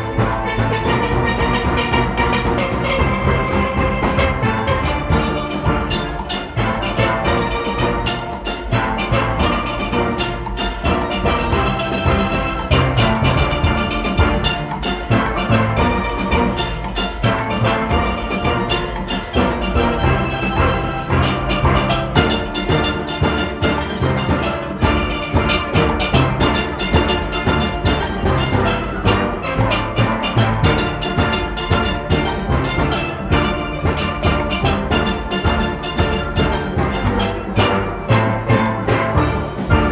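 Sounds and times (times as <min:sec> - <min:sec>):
drums and percussion: 0:00.0 - 0:39.9
steelpans playing: 0:00.0 - 0:39.9.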